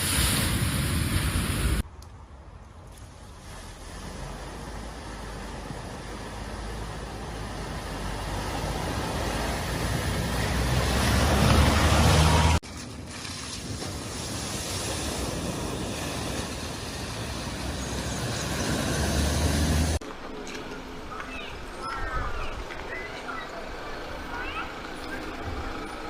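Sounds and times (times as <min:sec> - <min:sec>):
water rushing around tyres: 0:00.0 - 0:01.9, 0:02.7 - 0:26.0
vehicle engine: 0:02.8 - 0:26.0.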